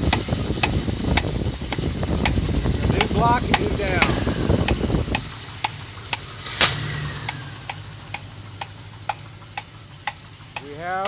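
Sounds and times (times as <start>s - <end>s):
low rumbling noise: 0.0s - 10.6s
steady even clicking: 0.0s - 11.0s.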